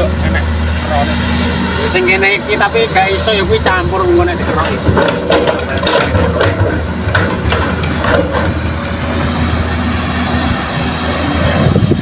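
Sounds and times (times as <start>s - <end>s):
heavy diesel engines running: 0.0s - 12.0s.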